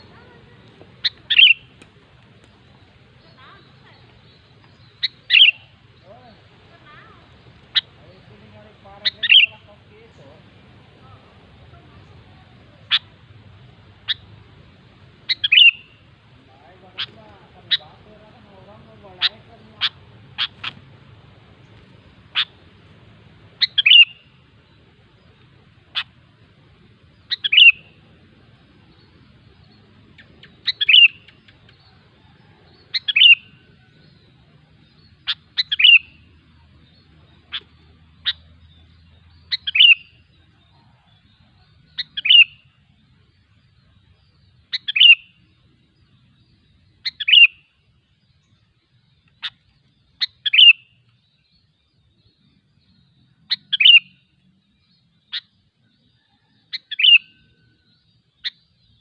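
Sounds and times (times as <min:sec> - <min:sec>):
bird calling bright phrases: 0:00.0 - 0:59.0.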